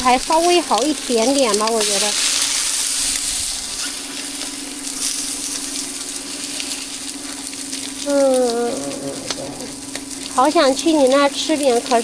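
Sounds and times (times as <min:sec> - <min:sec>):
food sizzling on griddle: 0:00.0 - 0:12.0
low mechanical hum: 0:00.0 - 0:12.0.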